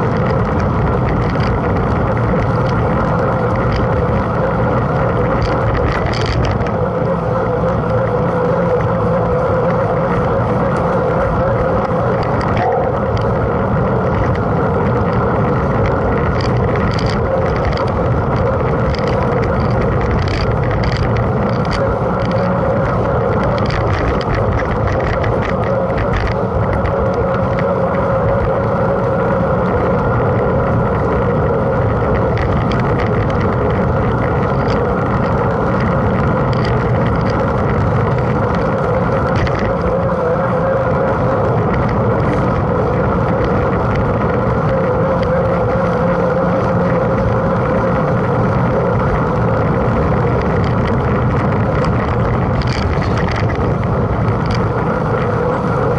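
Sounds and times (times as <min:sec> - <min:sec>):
bike clicks and rattles: 0:00.0 - 0:55.9.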